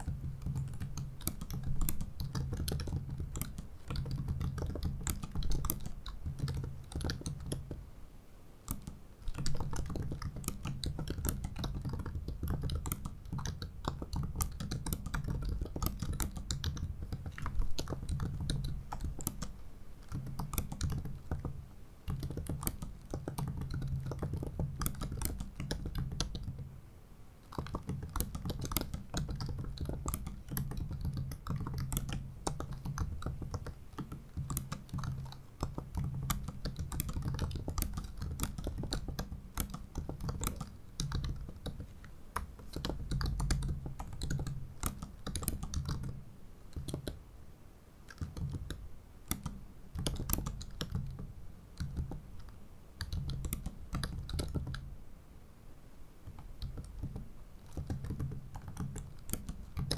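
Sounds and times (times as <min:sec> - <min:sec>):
laptop keyboard typing clicks: 0:00.0 - 0:07.8, 0:08.7 - 0:26.7, 0:27.4 - 0:47.2, 0:48.1 - 0:54.9, 0:56.2 - 0:59.9.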